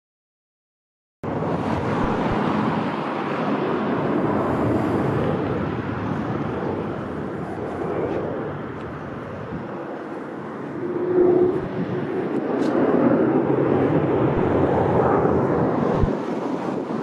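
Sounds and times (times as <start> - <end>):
jet engine rush: 1.3 - 17.0.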